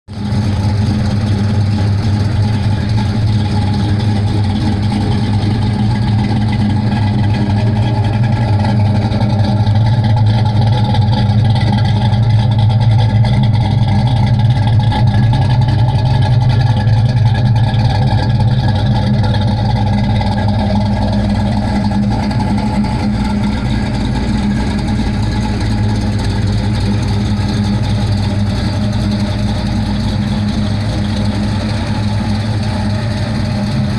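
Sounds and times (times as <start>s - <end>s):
vee eight engine idling: 0.1s - 33.9s.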